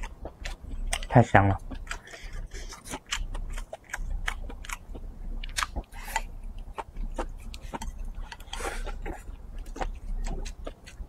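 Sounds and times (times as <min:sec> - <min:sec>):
person chewing with wet smacks: 0:00.0 - 0:11.0.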